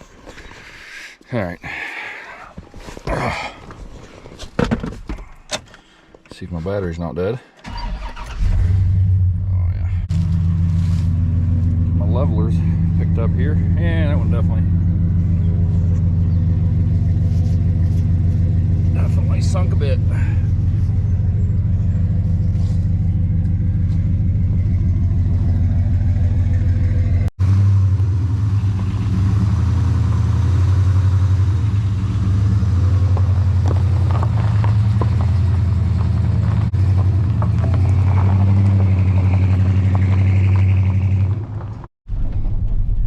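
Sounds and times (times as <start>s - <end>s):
road noise: 0.0s - 41.9s
car engine drone: 7.6s - 43.0s.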